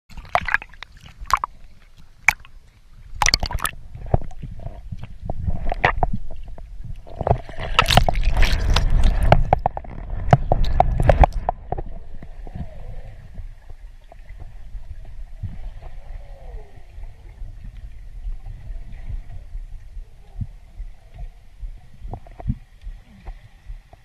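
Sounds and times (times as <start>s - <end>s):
water sloshing and gurgling: 0.1s - 24.0s
low rumble: 3.1s - 24.0s.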